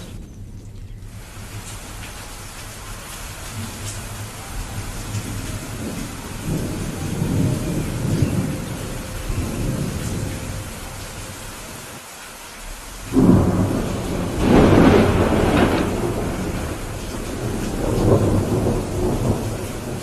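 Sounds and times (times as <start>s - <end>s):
loud thunderclap: 0.0s - 11.2s, 13.0s - 20.0s
thunder rumbling: 0.0s - 12.0s, 12.6s - 20.0s
steady rain: 0.0s - 20.0s.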